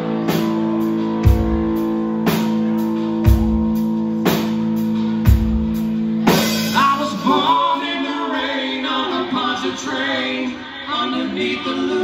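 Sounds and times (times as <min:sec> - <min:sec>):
band playing: 0:00.0 - 0:09.8.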